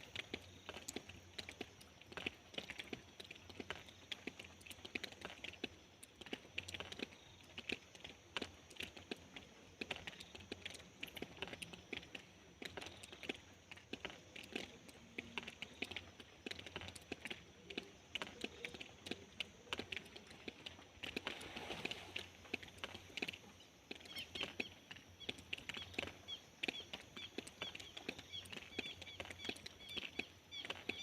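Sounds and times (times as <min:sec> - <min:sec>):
raindrops ticking on hard surface: 0:00.0 - 0:31.0.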